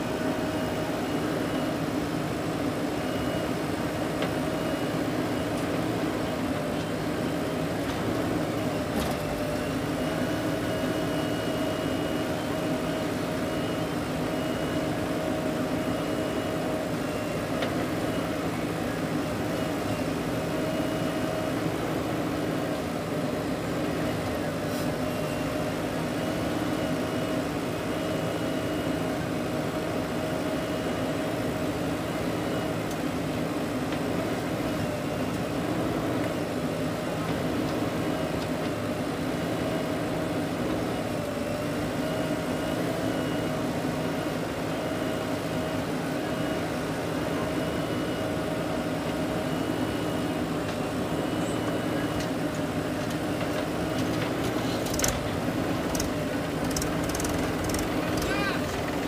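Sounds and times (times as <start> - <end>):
diesel engines droning: 0.0 - 59.0.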